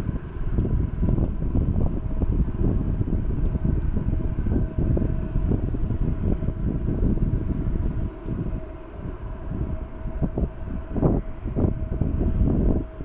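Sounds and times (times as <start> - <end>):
distant airliner whine: 0.0 - 13.0
uneven low rumble: 0.0 - 13.0.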